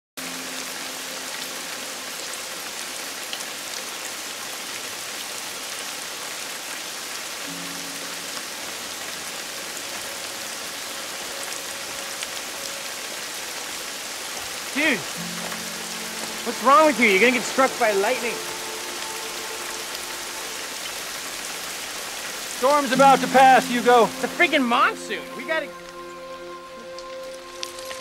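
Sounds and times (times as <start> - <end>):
heavy rain pouring: 0.2 - 28.0.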